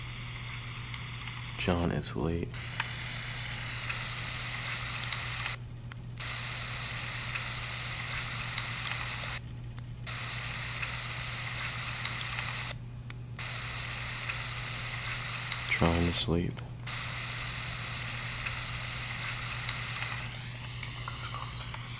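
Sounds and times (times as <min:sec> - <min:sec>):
low hum: 0:00.0 - 0:21.9
recorder playback hiss: 0:00.0 - 0:21.9.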